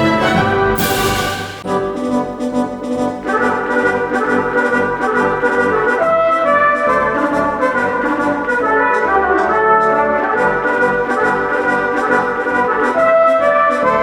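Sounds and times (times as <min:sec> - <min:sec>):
brass music with steady beat: 0:00.0 - 0:14.0.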